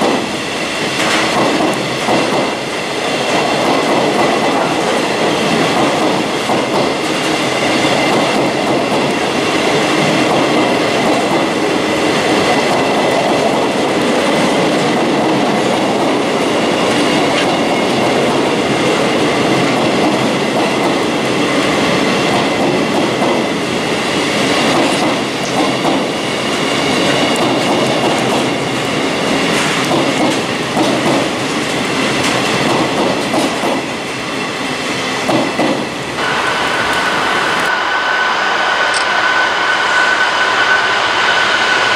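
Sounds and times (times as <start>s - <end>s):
clickety-clack over rail joints: 0.0s - 23.6s, 24.3s - 34.1s, 35.1s - 36.2s
freight train wheels rumbling: 0.0s - 41.9s.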